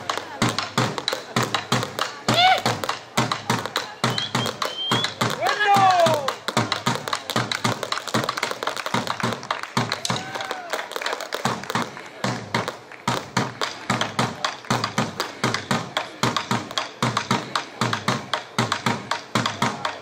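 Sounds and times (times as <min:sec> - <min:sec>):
large drum beaten with sticks: 0:00.0 - 0:10.3, 0:11.5 - 0:20.0.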